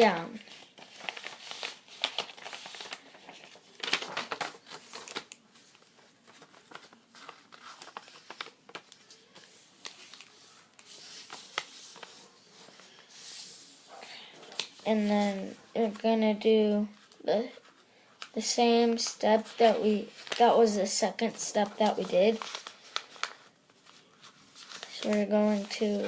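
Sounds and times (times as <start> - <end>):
paper folding and crinkling: 0.0 - 26.0.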